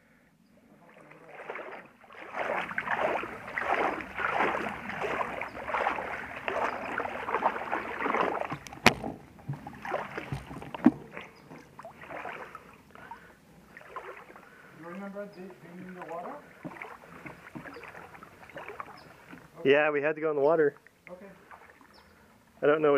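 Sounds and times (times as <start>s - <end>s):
water splashing from wading: 0.7s - 19.6s, 20.8s - 22.5s.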